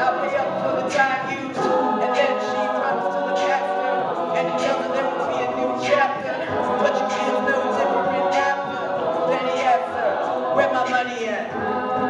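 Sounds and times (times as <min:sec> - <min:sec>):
a cappella group singing in harmony: 0:00.0 - 0:12.0.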